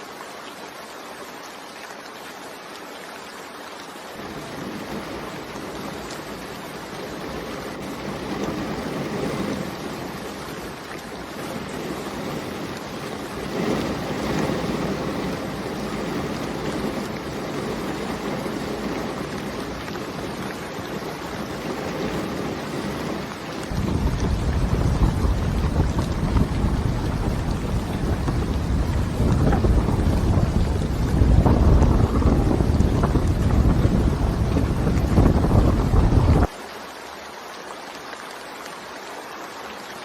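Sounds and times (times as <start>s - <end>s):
heavy rain hissing: 0.0s - 40.0s
deep thunder rumble: 4.1s - 36.5s.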